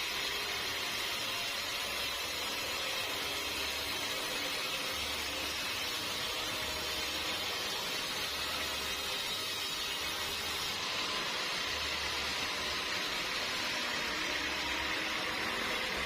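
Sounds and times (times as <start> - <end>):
band saw running: 0.0 - 16.0.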